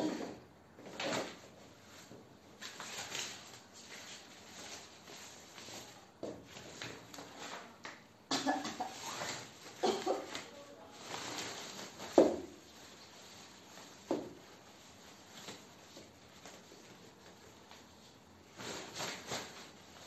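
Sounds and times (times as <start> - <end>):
fabric bag rustling and scraping: 0.9 - 7.7, 8.9 - 9.8, 10.9 - 20.0.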